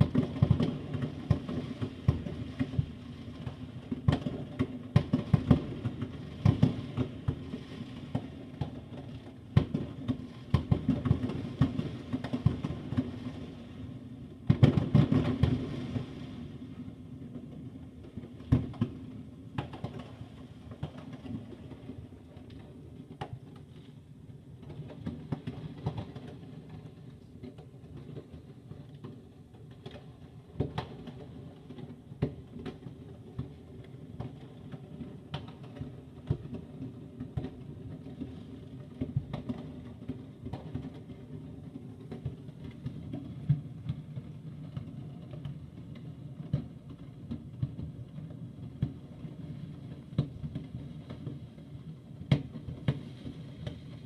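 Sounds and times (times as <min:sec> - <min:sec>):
distant fireworks bangs and crackles: 0:00.0 - 0:54.0.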